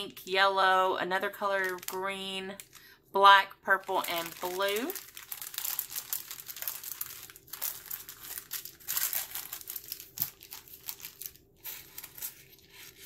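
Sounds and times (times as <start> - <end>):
plastic bag crinkling: 1.3 - 2.9, 3.7 - 13.0.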